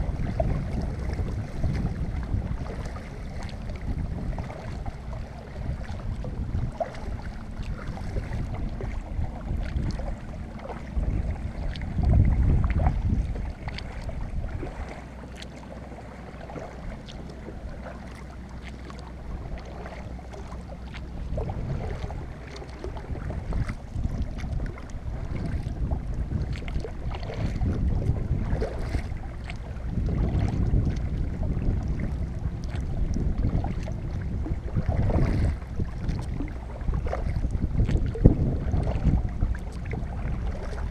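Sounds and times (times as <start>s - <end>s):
paddle splashing in water: 0.0s - 40.9s
wind buffeting microphone: 0.0s - 40.9s
water dripping off paddle: 4.4s - 27.8s, 28.5s - 34.2s, 34.8s - 40.9s.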